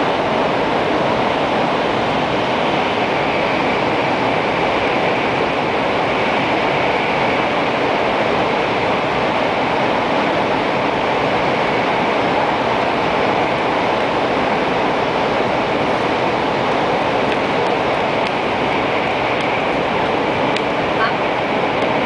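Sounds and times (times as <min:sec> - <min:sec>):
train running noise roar: 0:00.0 - 0:22.0.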